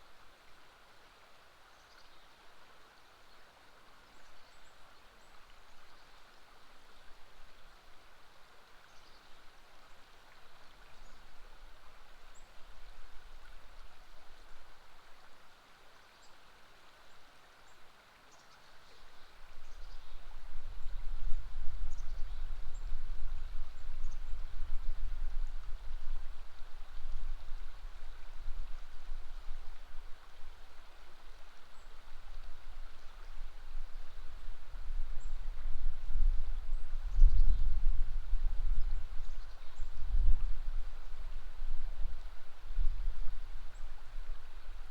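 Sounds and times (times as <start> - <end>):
river water flowing: 0.0 - 37.2, 37.9 - 44.9.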